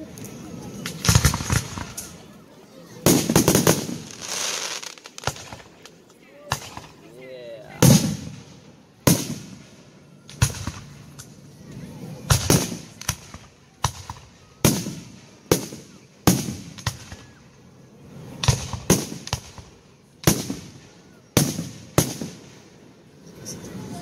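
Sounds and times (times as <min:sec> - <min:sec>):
fireworks bursting with booms: 0:00.0 - 0:02.3, 0:03.0 - 0:07.0, 0:07.7 - 0:11.2, 0:12.1 - 0:22.9.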